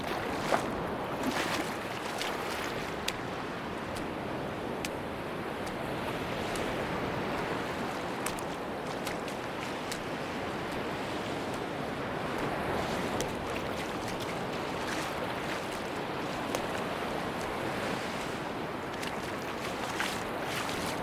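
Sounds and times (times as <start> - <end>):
sea surf washing on beach: 0.0 - 21.0.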